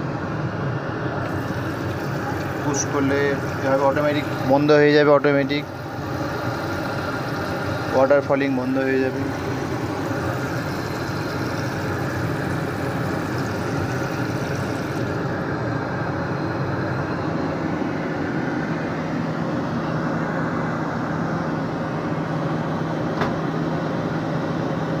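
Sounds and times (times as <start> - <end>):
airliner cabin hiss and drone: 0.0 - 23.8.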